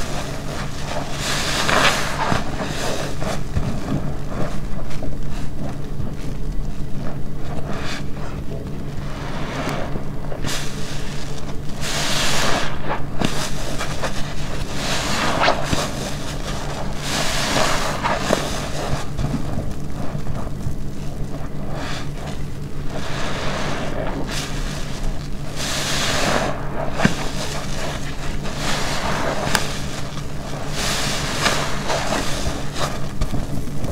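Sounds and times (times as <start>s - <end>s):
sponge squelching: 0.0s - 33.9s
steady low hum: 0.0s - 33.9s.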